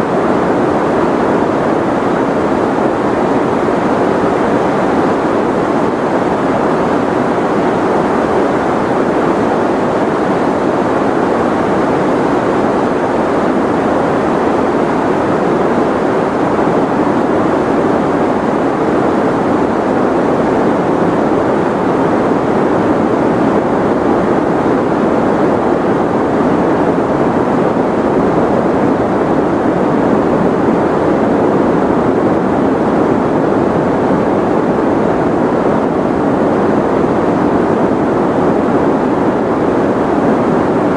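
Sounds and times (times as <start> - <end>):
deep white noise hiss: 0.0 - 40.9.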